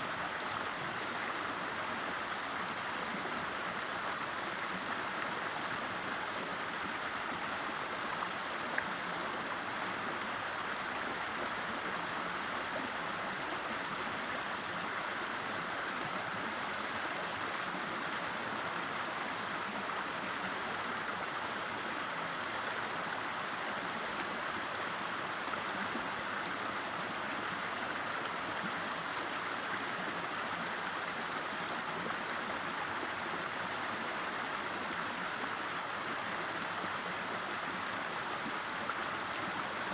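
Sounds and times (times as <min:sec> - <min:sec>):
river water rushing and babbling: 0:00.0 - 0:39.9.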